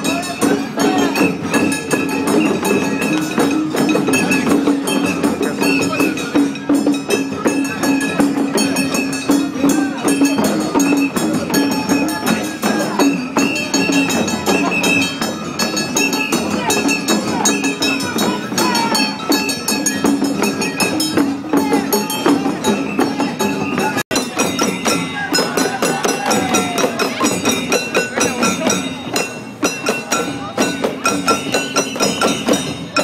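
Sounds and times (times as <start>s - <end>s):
crowd voices: 0.0s - 33.0s
jingling clacking percussion: 0.0s - 33.0s.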